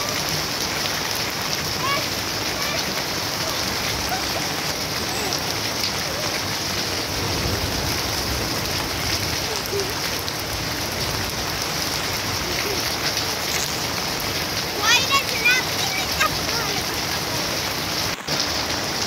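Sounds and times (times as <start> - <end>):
steady rain on plants: 0.0 - 19.0.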